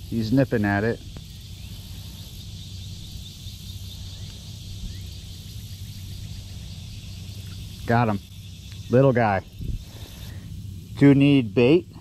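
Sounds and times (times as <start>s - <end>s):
insects trilling: 0.0s - 12.0s
low steady hum: 0.0s - 12.0s.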